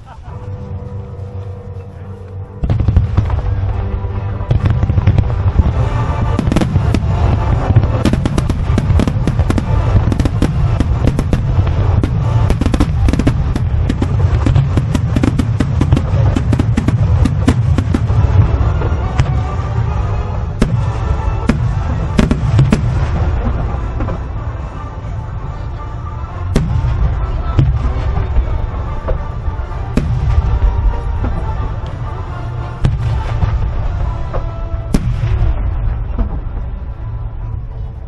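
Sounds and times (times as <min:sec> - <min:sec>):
deep rumble: 0:00.0 - 0:38.0
fireworks cracks and booms: 0:02.6 - 0:24.7, 0:26.5 - 0:37.1.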